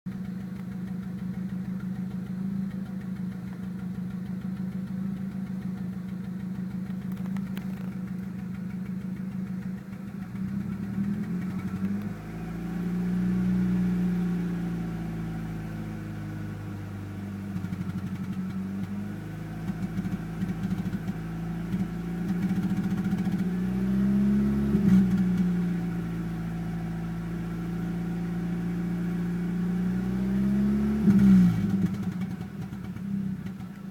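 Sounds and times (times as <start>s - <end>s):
misfiring engine idling and revving: 0.1s - 33.9s.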